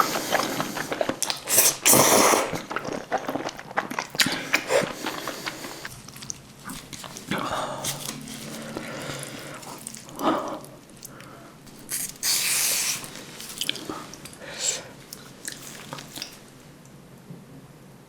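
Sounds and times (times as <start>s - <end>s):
person chewing noodles: 0.0s - 16.9s.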